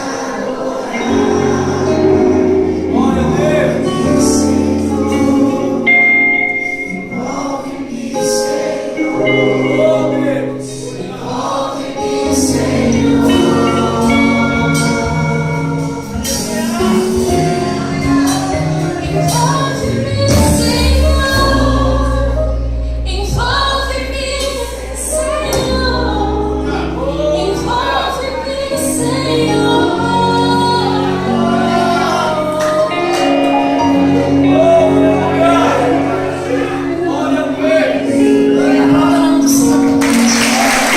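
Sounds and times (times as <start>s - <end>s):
choir singing gospel song: 0.0s - 40.9s.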